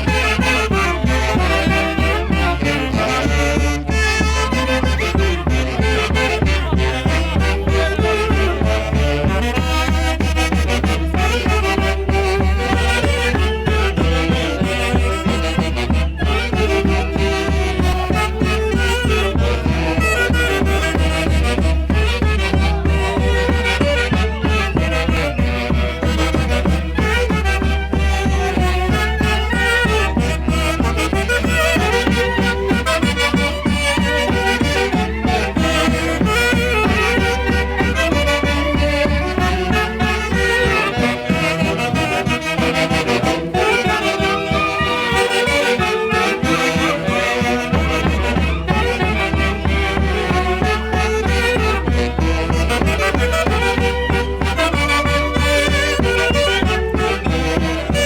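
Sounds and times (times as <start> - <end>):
folk dance band playing: 0.0 - 58.0
wind instruments melody: 0.0 - 58.0.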